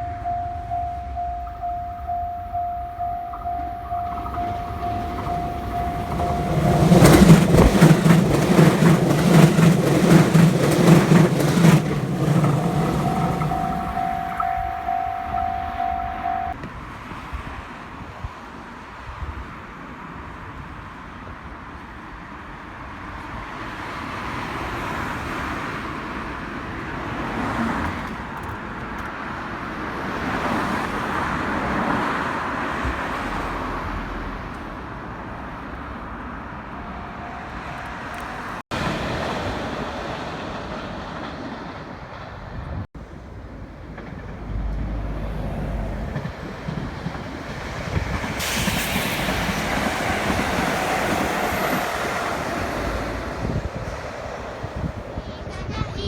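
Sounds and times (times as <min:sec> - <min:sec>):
train passing: 0:00.0 - 0:17.7, 0:21.8 - 0:56.0
road traffic passing: 0:00.0 - 0:56.0.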